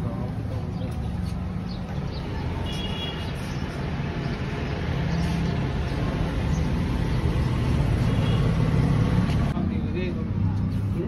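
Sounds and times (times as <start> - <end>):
motor vehicle running: 0.0 - 9.6.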